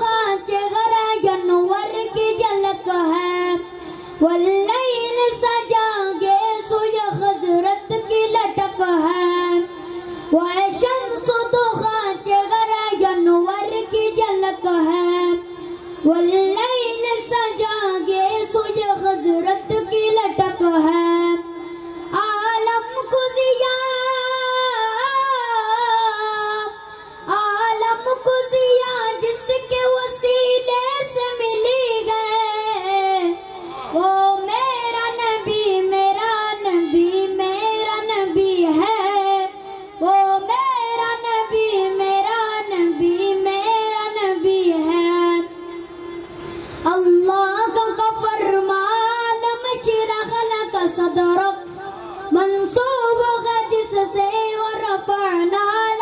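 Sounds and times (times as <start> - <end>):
boy singing into a microphone: 0.0 - 56.0.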